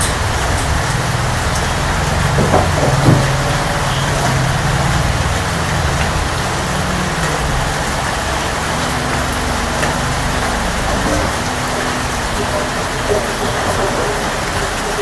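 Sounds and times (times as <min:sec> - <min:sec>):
heavy rain hiss: 0:00.0 - 0:15.0.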